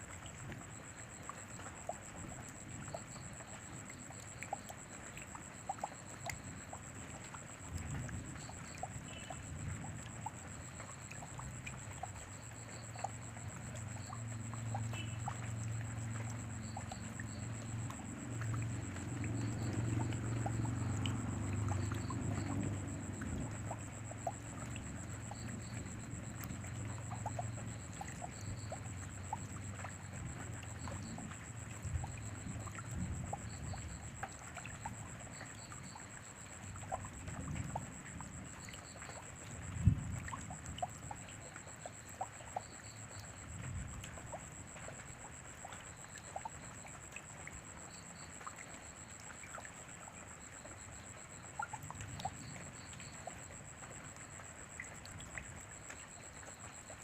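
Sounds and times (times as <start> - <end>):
rain drops ticking: 0.0 - 57.0.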